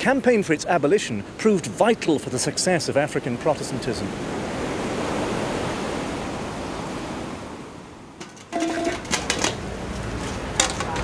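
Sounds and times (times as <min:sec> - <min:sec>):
ocean surf washing on beach: 0:00.0 - 0:11.0.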